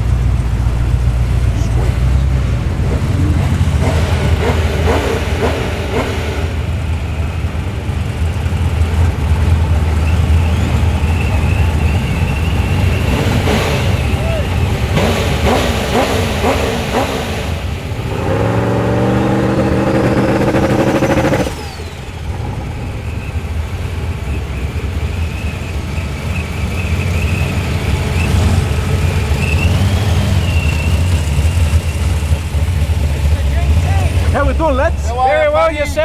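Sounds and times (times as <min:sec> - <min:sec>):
car engine revving: 0:00.0 - 0:36.0
engine lumpy idle: 0:00.0 - 0:36.0.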